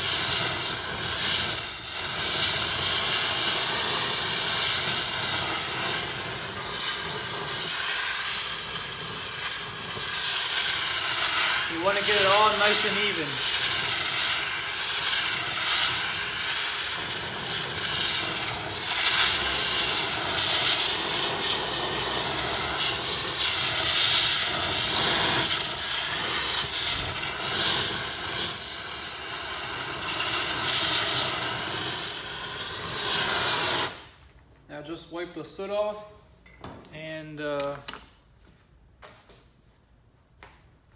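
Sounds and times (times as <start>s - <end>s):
torch flame hissing: 0.0s - 34.2s.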